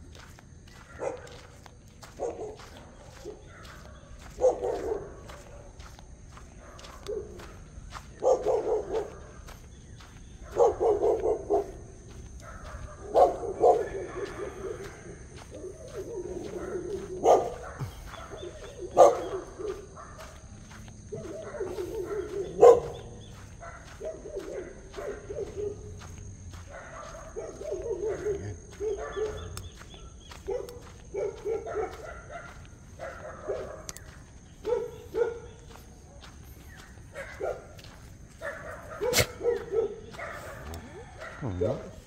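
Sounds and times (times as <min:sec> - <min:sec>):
dogs barking: 0:00.0 - 0:42.0.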